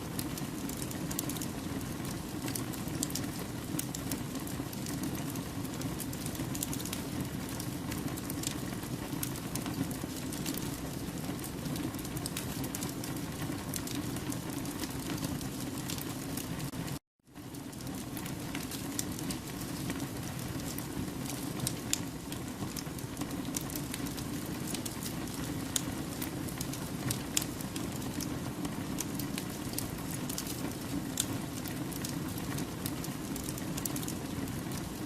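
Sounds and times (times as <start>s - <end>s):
logs crackling and popping: 0.1s - 16.8s, 17.6s - 35.0s.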